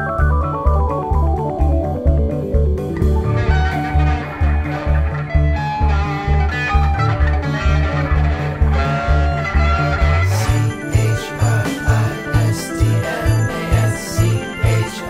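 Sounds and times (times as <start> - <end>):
instrumental music with pulsing bass: 0.0 - 15.0.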